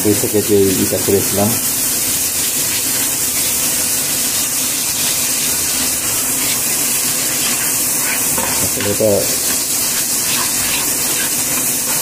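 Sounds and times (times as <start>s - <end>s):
gravy sizzling in a frying pan: 0.0s - 12.0s.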